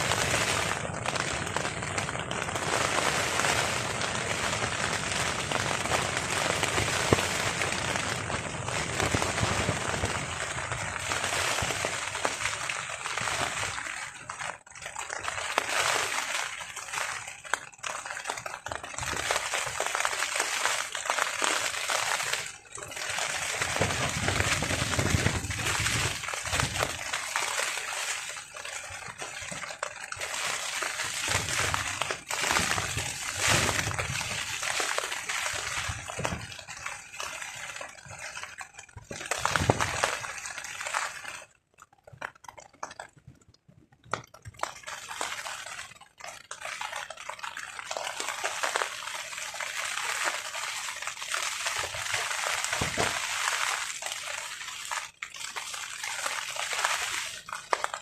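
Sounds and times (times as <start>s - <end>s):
heavy rain drumming on a tarp: 0.0s - 43.2s, 43.9s - 58.0s.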